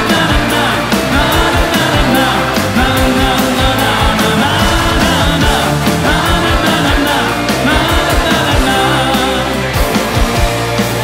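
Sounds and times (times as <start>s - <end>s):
man singing: 0.0s - 9.8s
rock band playing live: 0.0s - 11.0s.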